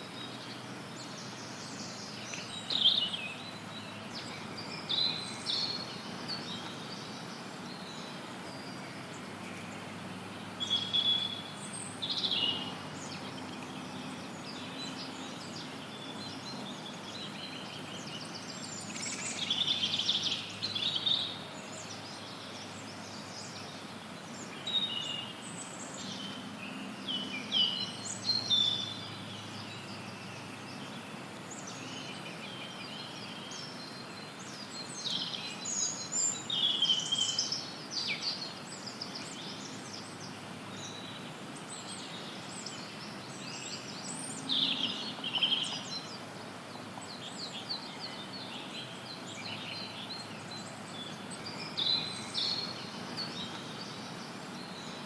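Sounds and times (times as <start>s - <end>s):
birds chirping and trilling: 0.0s - 55.0s
white noise hiss: 0.0s - 55.0s.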